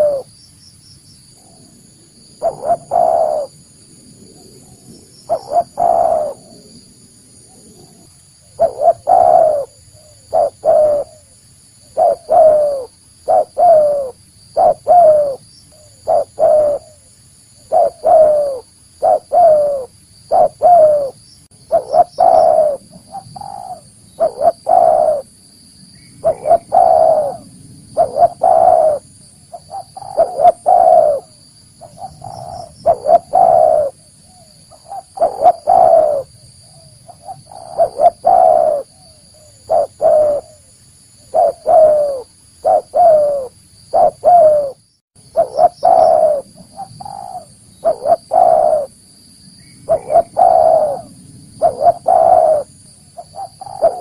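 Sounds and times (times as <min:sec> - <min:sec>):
dove cooing: 0:00.0 - 0:00.3, 0:02.4 - 0:03.6, 0:04.3 - 0:06.8, 0:07.5 - 0:25.4, 0:26.2 - 0:49.0, 0:49.8 - 0:54.0.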